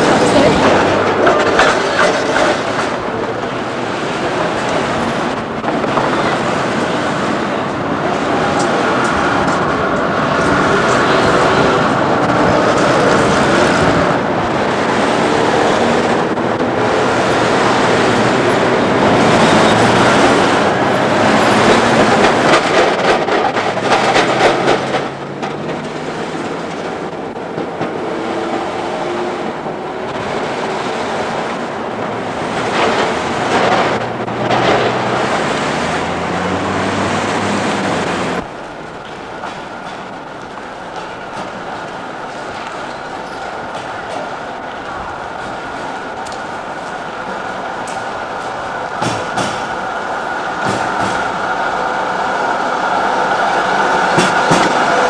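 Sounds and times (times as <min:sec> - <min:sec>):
street traffic: 0:00.0 - 0:55.0
tram wheels clattering over rails: 0:00.0 - 0:55.0.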